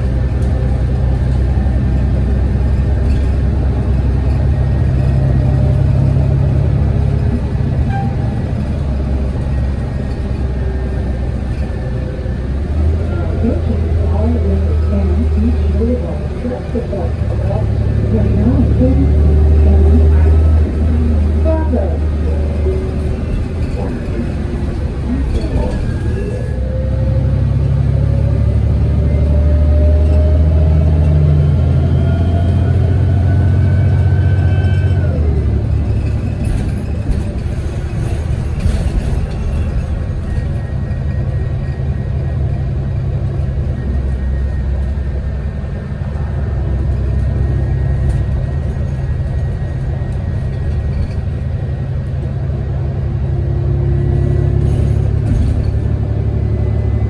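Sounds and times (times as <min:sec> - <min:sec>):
bus engine rumble: 0:00.0 - 0:57.0
rising drivetrain whine: 0:00.0 - 0:57.0.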